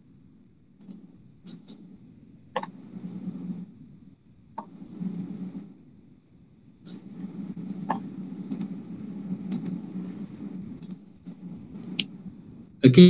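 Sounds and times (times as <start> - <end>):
faint low murmur: 0.0 - 13.0.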